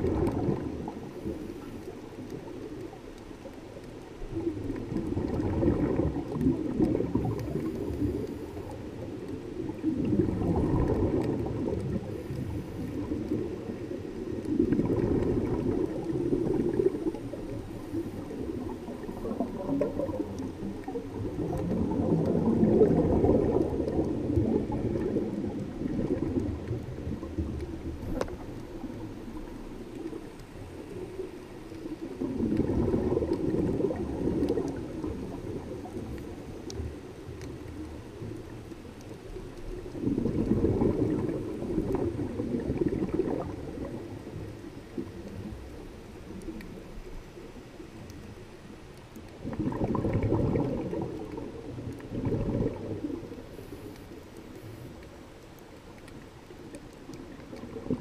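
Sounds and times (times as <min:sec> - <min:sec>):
faint clicks: 0:00.0 - 0:58.0
scuba exhaust bubbles gurgling: 0:00.0 - 0:58.0.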